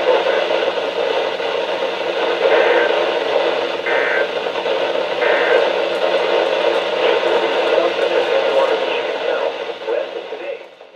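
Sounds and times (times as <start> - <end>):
radio static: 0.0 - 10.7.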